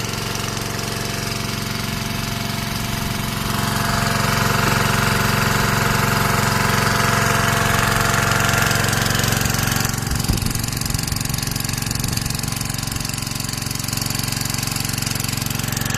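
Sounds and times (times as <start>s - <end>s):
pump knocking: 0.0s - 15.9s
small engine running: 0.0s - 15.9s.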